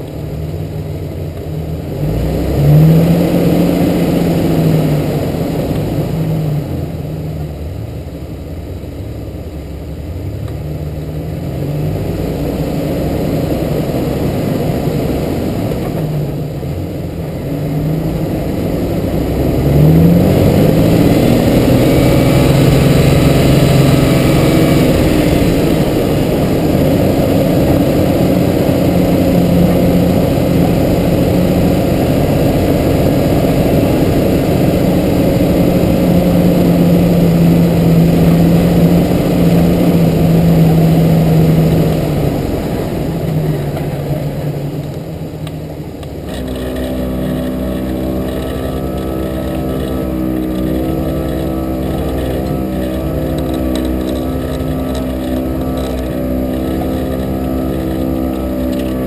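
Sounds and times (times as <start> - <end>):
car engine running: 0.0 - 59.0
tyre and road noise: 0.0 - 59.0.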